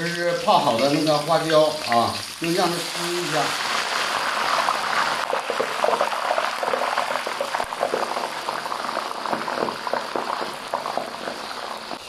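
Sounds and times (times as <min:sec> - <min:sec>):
hot oil frying and crackling: 0:00.0 - 0:12.0.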